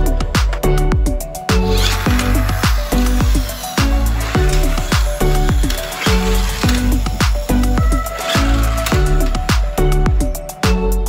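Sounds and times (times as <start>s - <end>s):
sliding bass drum notes: 0.0s - 10.3s
music with steady beat: 0.0s - 11.0s.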